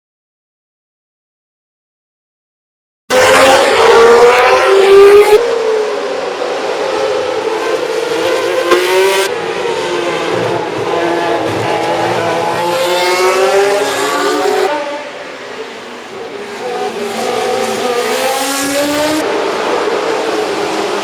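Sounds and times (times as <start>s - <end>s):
race car engines revving: 3.1s - 21.0s.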